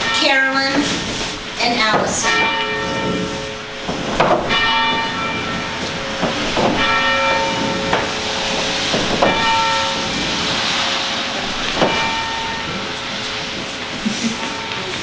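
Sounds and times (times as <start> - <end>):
bell tolling slowly: 0.0 - 15.0
steady hiss: 0.1 - 15.0.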